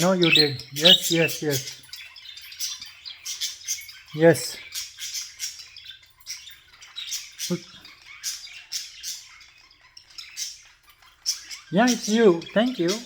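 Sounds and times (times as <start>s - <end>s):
budgerigar chattering: 0.0s - 13.0s.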